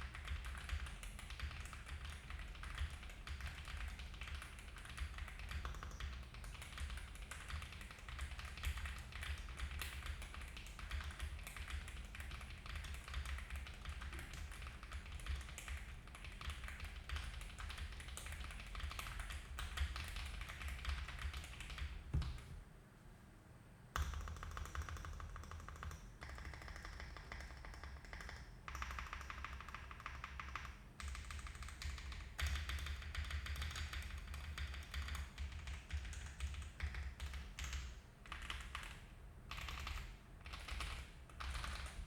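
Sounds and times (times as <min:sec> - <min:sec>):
mechanical keyboard typing: 0:00.0 - 0:22.5, 0:24.0 - 0:42.0.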